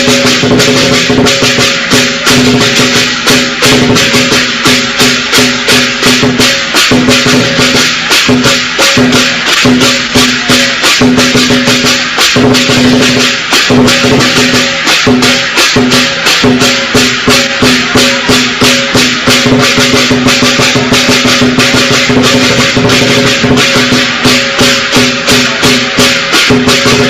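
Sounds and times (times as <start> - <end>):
fast rattling percussion beat: 0.0 - 27.0.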